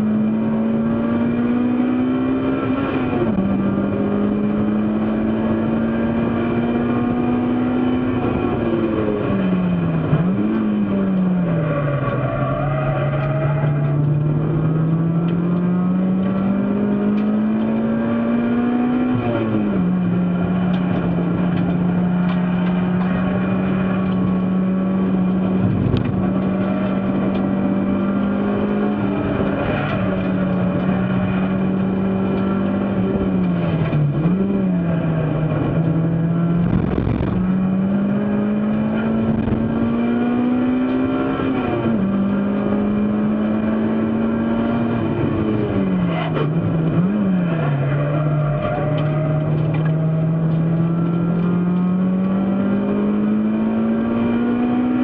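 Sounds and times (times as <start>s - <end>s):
race car engine revving: 0.0s - 55.0s
road and wind noise: 0.0s - 55.0s.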